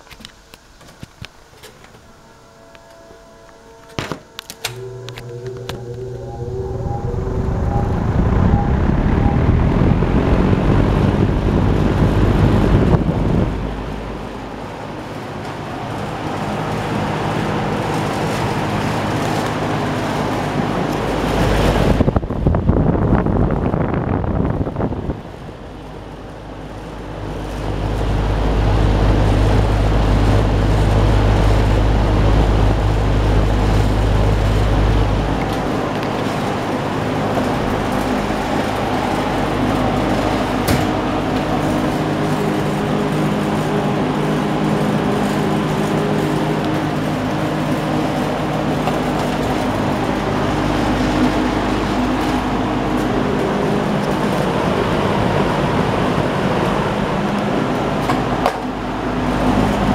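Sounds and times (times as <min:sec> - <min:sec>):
box fan running: 0:00.0 - 0:59.9
wind buffeting microphone: 0:05.9 - 0:15.3, 0:16.9 - 0:58.4.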